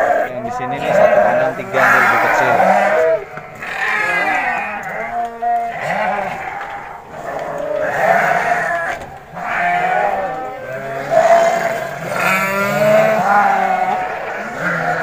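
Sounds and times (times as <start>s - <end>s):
sheep bleating: 0.0s - 15.0s.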